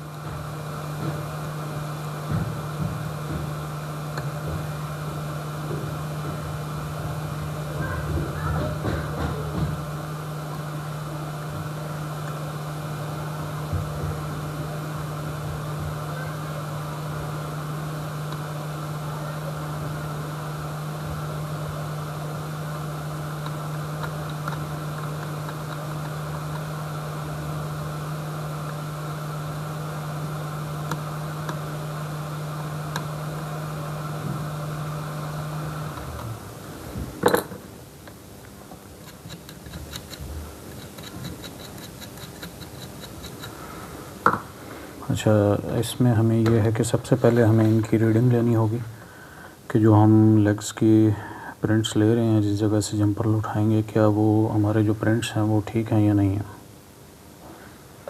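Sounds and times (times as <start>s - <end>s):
electric motor humming: 0.0s - 37.4s, 38.4s - 49.2s.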